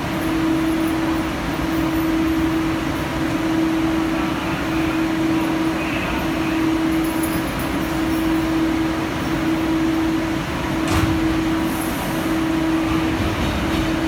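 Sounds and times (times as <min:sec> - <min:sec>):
metro train hum: 0:00.0 - 0:14.0.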